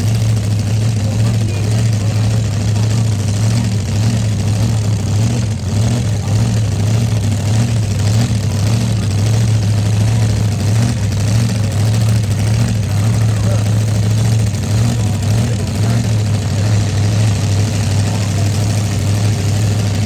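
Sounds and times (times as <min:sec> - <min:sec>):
large engine droning: 0:00.0 - 0:20.0.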